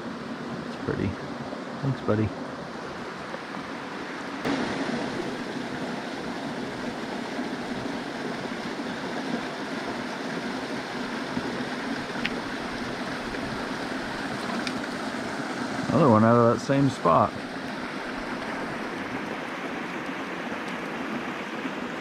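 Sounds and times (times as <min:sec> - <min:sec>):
creek flowing: 0:00.0 - 0:22.0.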